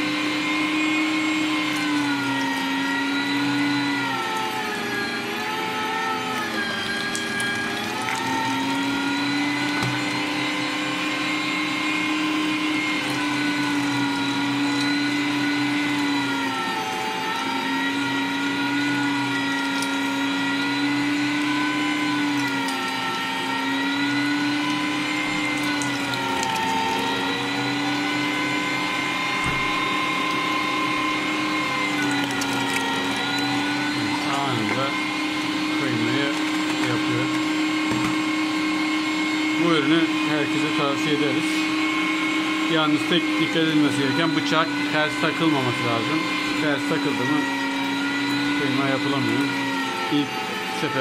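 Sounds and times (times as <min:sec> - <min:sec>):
meat grinder motor whining: 0:00.0 - 0:51.0.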